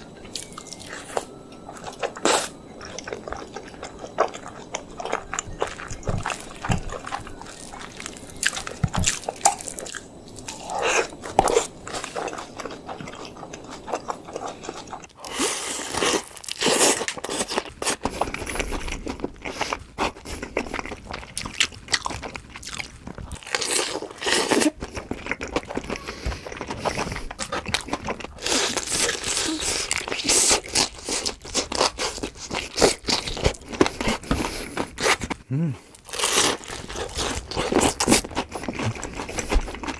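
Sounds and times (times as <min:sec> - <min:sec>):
breading crackling: 0:00.0 - 0:39.9
chewing crispy fried chicken: 0:00.3 - 0:39.9.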